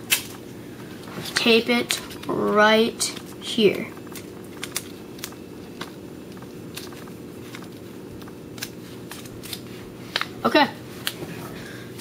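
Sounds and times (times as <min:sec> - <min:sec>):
paper and tape crinkling: 0:00.0 - 0:12.0
steady low hum: 0:00.0 - 0:12.0.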